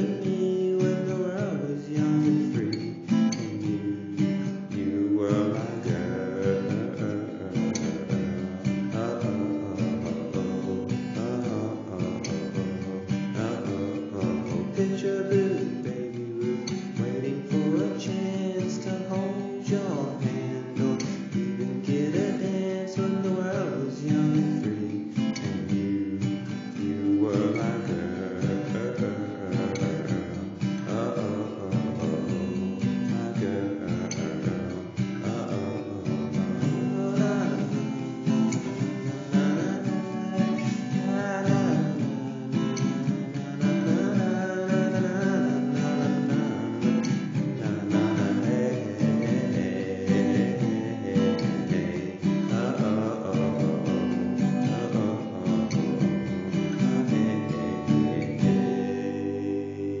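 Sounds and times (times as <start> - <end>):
strummed acoustic guitar: 0.0 - 60.0.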